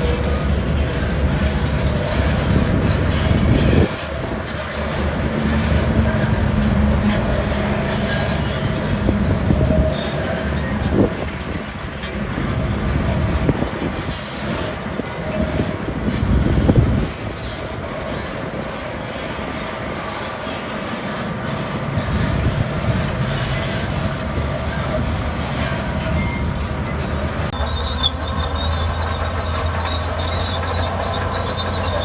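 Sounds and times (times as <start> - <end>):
diesel machinery engine rumble: 0.0 - 17.1, 21.3 - 32.0.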